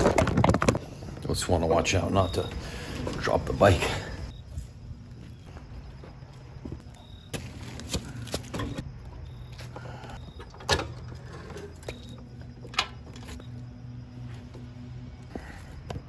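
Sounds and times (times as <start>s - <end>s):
steady low hum: 0.8s - 16.0s.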